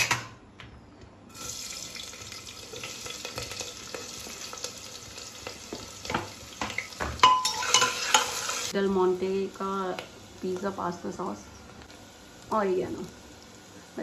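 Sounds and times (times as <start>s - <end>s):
onion sizzling in hot oil: 1.3s - 14.0s.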